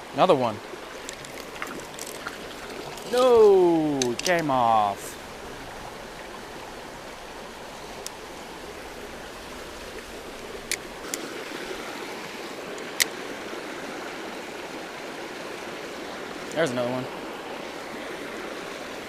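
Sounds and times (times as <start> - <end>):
creek water running: 0.0 - 19.0.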